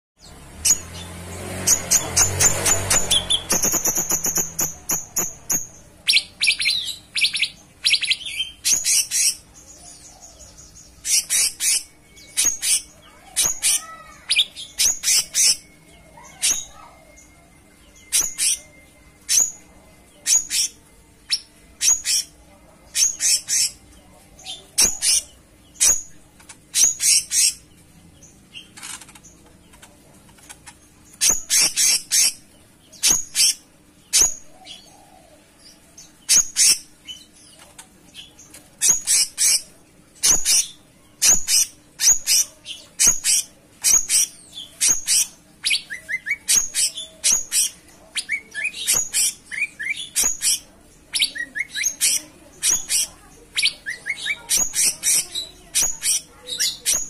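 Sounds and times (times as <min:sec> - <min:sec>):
songbird chirping song: 0:00.2 - 0:57.0.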